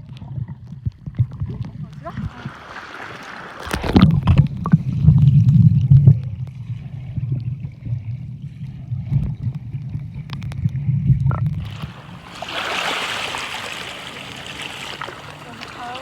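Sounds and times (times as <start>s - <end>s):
sea water sloshing: 0.0s - 16.0s.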